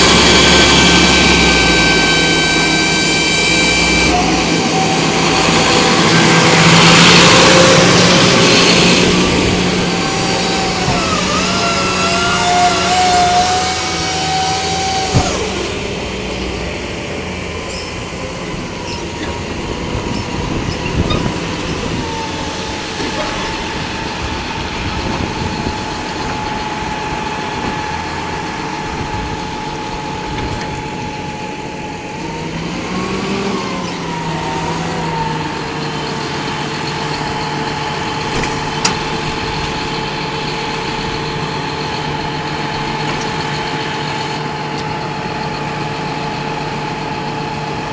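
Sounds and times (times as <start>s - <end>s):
tractor diesel engines running: 0.0s - 47.9s.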